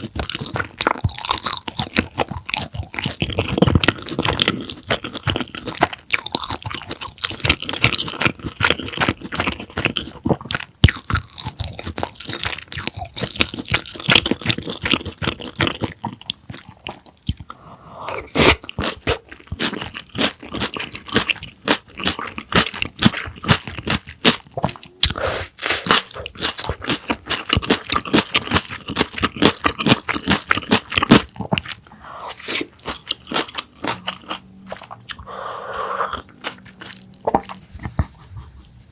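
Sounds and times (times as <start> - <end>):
chewing crunchy fried food: 0.0 - 38.7.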